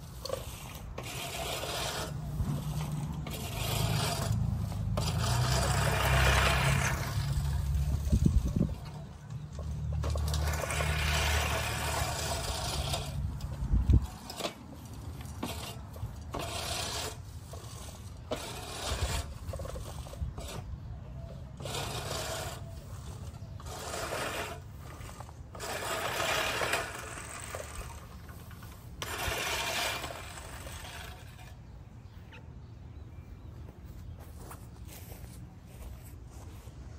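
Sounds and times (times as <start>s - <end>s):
reel mower cutting grass: 0.0s - 32.2s.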